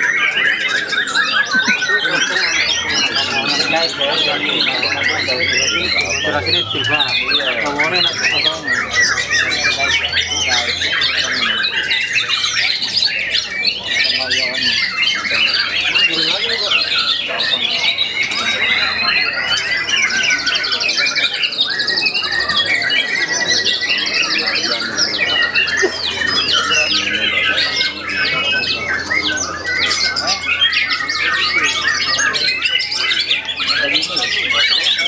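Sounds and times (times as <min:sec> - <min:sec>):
birds singing whistles and trills: 0:00.0 - 0:35.0.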